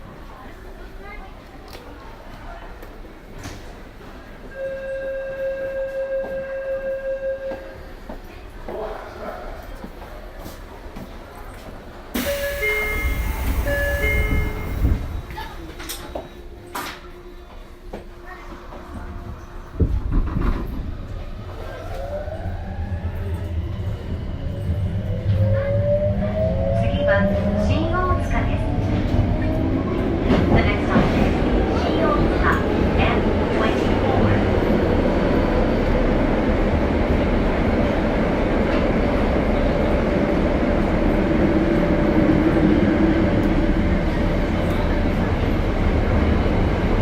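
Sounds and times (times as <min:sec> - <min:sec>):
subway train rumble: 0:00.0 - 0:47.0.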